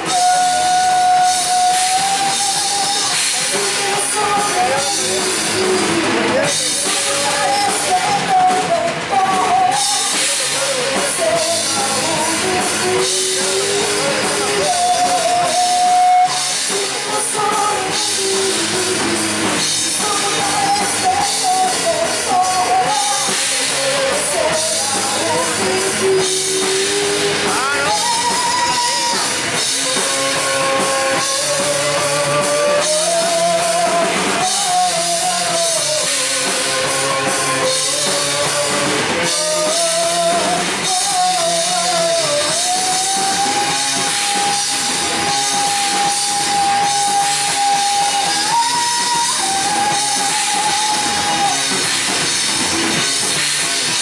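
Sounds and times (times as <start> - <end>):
woman singing: 0.0 - 51.8
drum kit: 0.0 - 54.0
electric guitars: 0.0 - 54.0.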